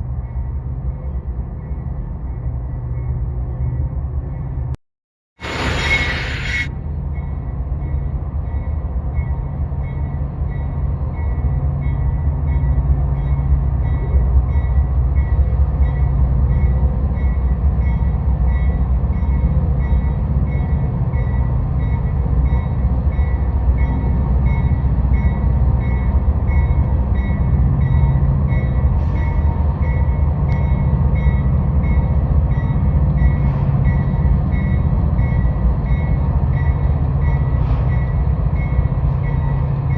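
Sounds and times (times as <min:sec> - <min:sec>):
train rumbling: 0:00.0 - 0:04.8, 0:05.4 - 0:39.9.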